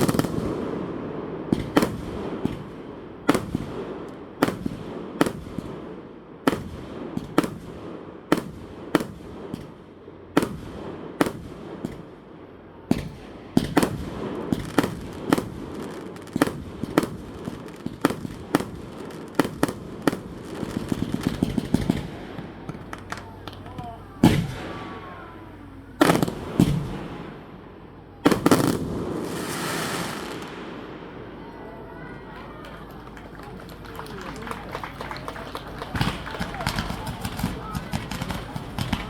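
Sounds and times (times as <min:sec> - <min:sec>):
fireworks bangs: 0:00.0 - 0:39.0
rumbling crackle of fireworks: 0:00.0 - 0:39.0.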